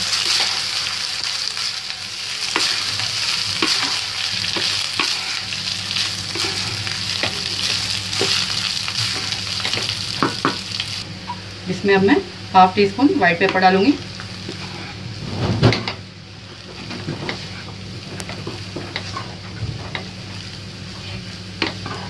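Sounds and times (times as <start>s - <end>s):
rice sizzling in pan: 0.0s - 22.0s.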